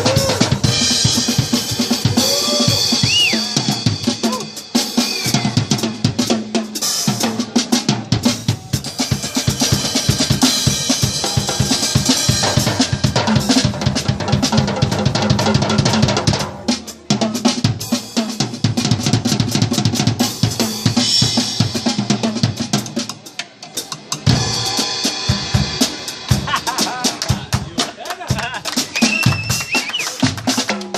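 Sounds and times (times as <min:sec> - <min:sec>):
fast drum jam: 0:00.0 - 0:30.9.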